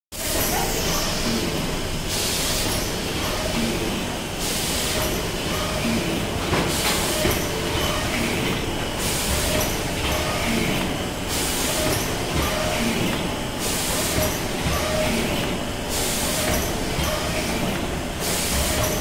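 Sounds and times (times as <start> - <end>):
machine clatter: 0.2 - 19.0
machine hiss: 0.2 - 19.0.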